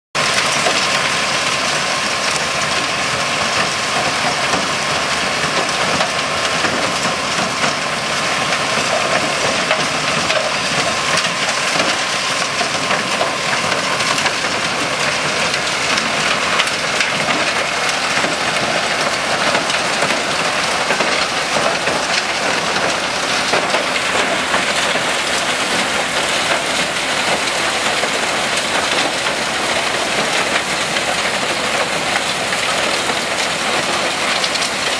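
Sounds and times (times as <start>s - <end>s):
crusher machine running: 0.2s - 34.9s.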